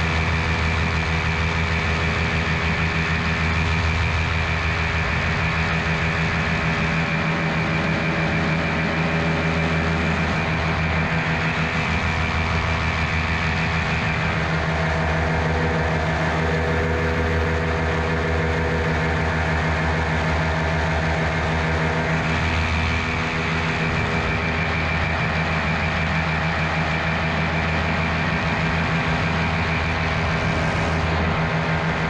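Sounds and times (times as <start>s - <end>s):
paramotor engine and propeller: 0.0s - 32.0s.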